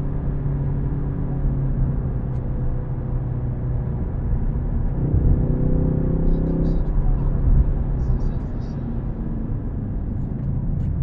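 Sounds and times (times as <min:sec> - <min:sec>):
car engine low note: 0:00.0 - 0:11.0
road and tyre rumble: 0:00.0 - 0:11.0.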